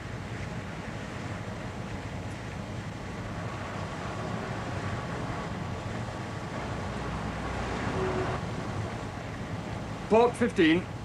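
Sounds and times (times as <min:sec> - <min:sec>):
ship engine rumble: 0:00.0 - 0:11.0
wind: 0:00.0 - 0:11.0.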